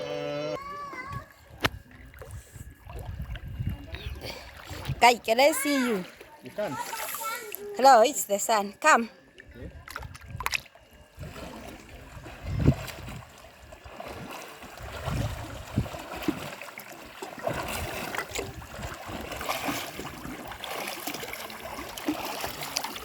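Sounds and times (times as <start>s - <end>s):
water sloshing and splashing: 1.1s - 8.2s, 9.2s - 23.0s.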